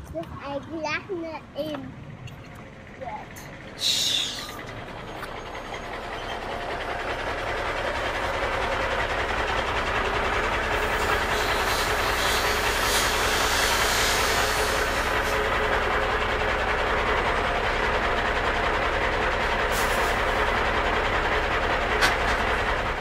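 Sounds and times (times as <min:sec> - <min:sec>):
heavy vehicle rumbling: 0:00.0 - 0:23.0.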